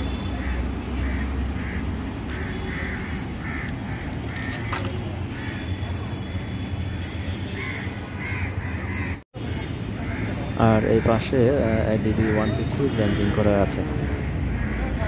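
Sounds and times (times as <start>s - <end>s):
crows cawing: 0.4s - 5.8s, 7.6s - 15.0s.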